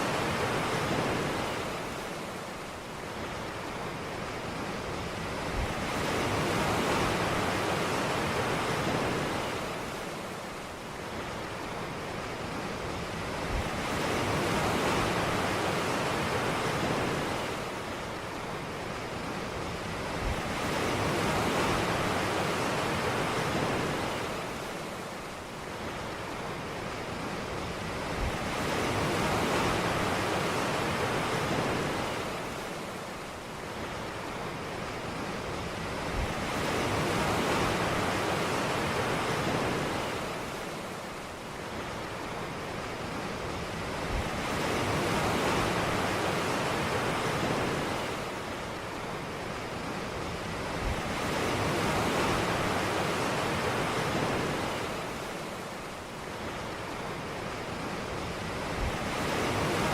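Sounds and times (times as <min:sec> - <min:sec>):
waves washing ashore: 0:00.0 - 0:59.9.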